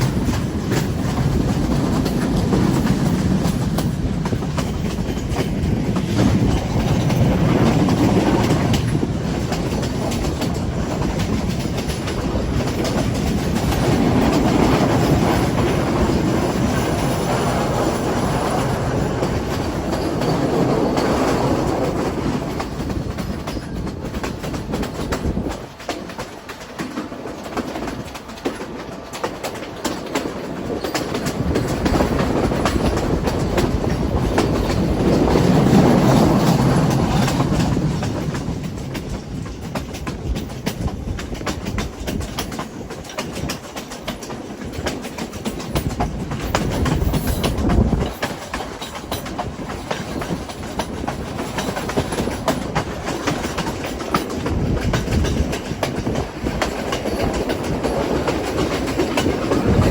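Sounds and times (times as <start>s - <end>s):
train carriage rumbling: 0.0s - 59.9s
wheels clicking over rail joints: 0.0s - 59.9s.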